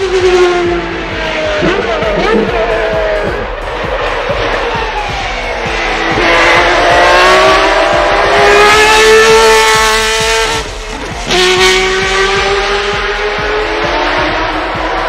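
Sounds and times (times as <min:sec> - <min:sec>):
racing engine at high revs: 0:00.0 - 0:15.0.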